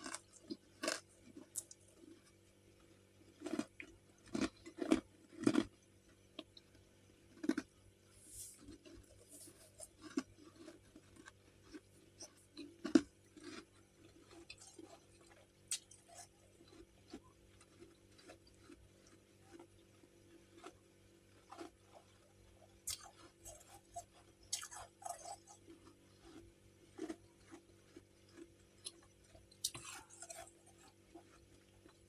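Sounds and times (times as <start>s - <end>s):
frost chunks being chewed: 0.0s - 32.0s.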